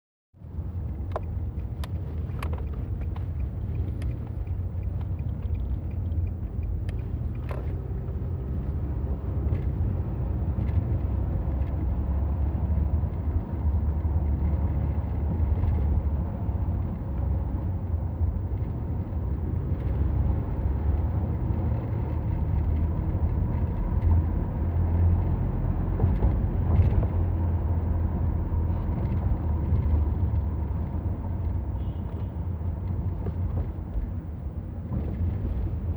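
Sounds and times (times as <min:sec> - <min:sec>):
vehicle ride rumble: 0:00.4 - 0:35.9.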